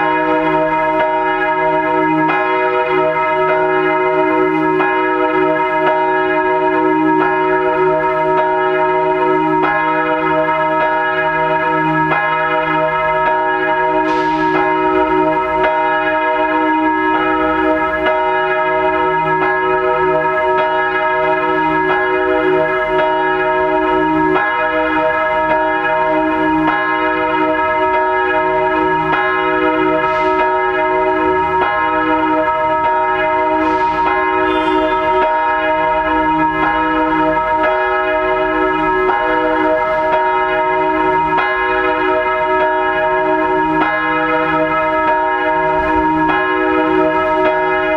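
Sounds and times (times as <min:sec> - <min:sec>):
church bell ringing: 0:00.0 - 0:47.9.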